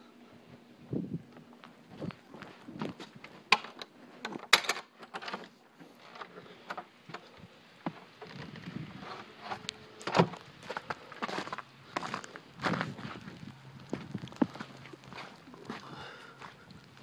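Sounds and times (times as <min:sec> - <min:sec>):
footsteps: 0:00.4 - 0:04.3, 0:07.1 - 0:17.0.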